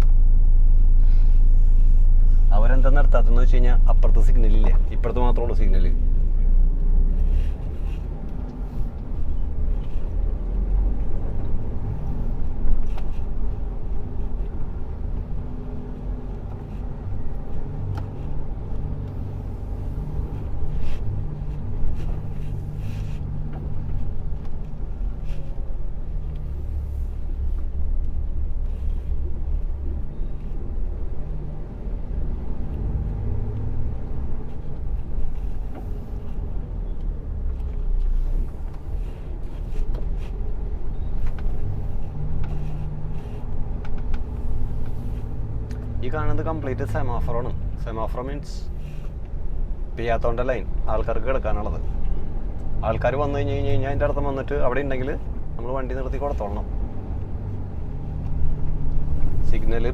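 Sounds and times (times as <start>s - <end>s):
lorry engine and road noise: 0.0s - 59.9s.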